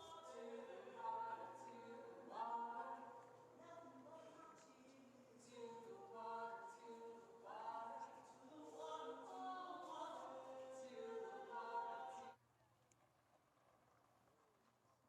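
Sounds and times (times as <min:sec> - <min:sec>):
group singing unaccompanied: 0:00.0 - 0:12.4.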